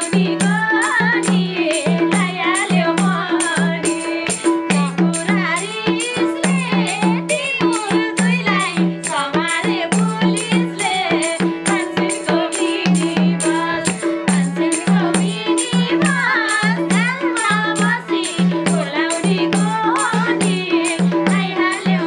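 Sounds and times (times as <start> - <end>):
hand drum: 0.0 - 22.0
harmonium: 0.0 - 22.0
person singing: 0.0 - 22.0
small hand cymbals: 0.0 - 22.0.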